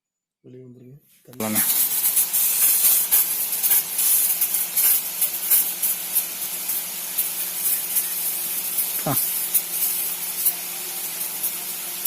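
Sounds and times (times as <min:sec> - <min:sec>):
water spraying from sprinklers: 0:01.4 - 0:12.0.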